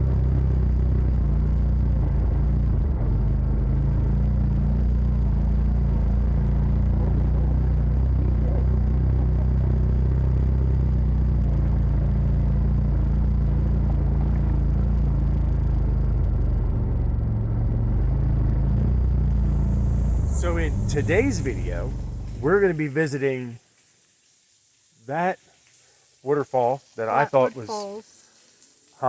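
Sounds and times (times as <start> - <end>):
vehicle engine rumbling: 0.0 - 23.8
rattle: 0.0 - 26.2.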